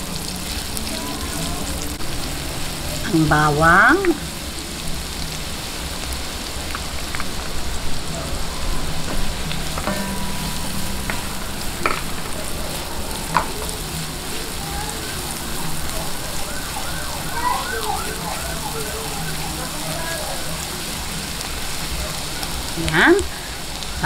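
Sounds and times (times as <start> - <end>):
onion and garlic sizzling in oil: 0.0 - 24.0.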